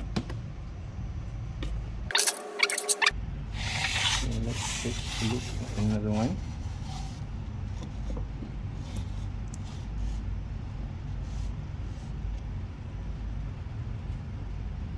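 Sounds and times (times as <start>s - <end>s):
machine humming and rumbling: 0.0s - 14.9s.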